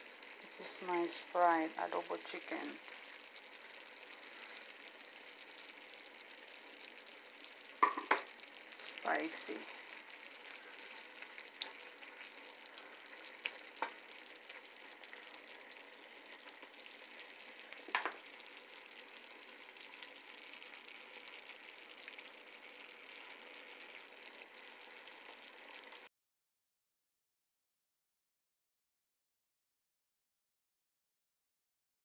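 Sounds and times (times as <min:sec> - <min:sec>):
food sizzling in a skillet: 0:00.0 - 0:26.1.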